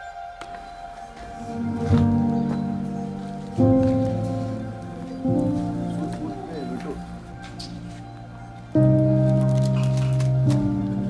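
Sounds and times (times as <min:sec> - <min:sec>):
sustained chord music: 0:00.0 - 0:11.0.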